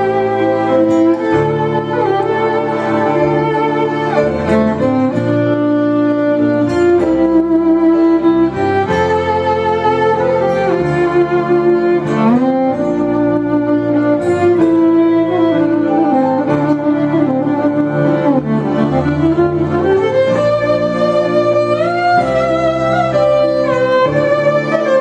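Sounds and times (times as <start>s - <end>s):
violin playing slow melody: 0.0s - 25.0s.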